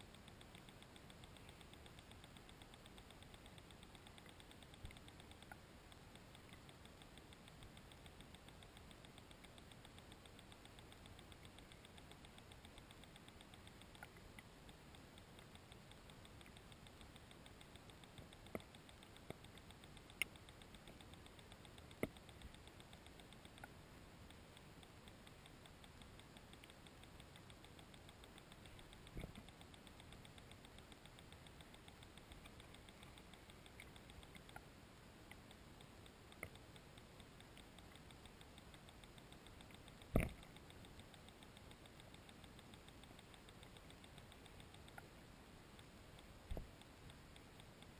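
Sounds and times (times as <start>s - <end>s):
faint clicks underwater: 0.0s - 47.9s.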